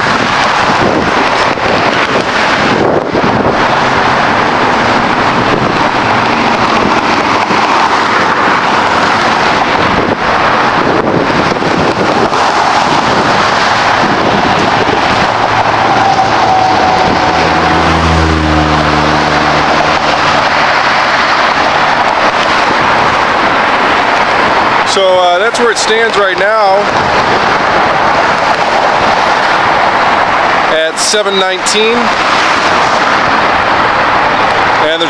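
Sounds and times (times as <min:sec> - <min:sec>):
heavy vehicle engine drone: 0:00.0 - 0:35.0
highway traffic rushing: 0:00.0 - 0:35.0
wind on microphone: 0:00.0 - 0:35.0.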